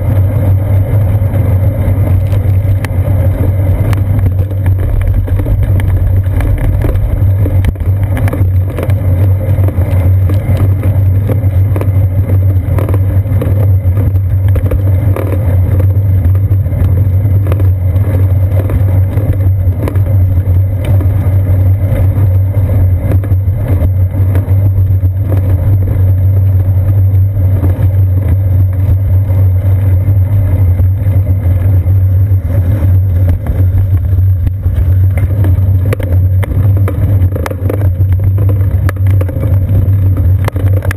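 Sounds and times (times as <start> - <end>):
bicycle tyres on pavement: 0.0 - 40.9
wind on camera: 0.0 - 40.9.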